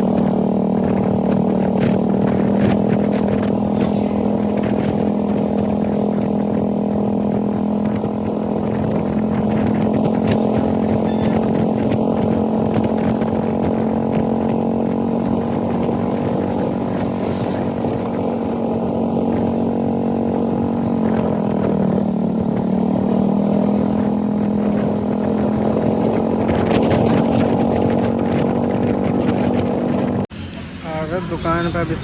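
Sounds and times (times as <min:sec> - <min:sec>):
motorcycle engine running: 0:00.0 - 0:31.1.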